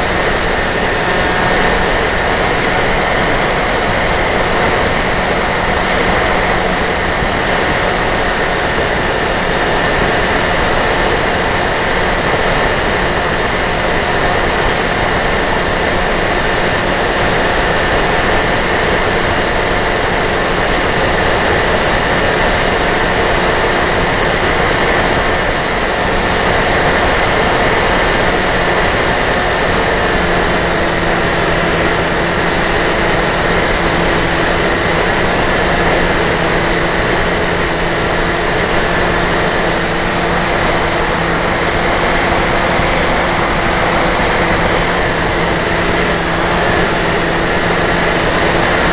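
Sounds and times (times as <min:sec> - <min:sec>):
electric motor and propeller whine: 0:00.0 - 0:48.9.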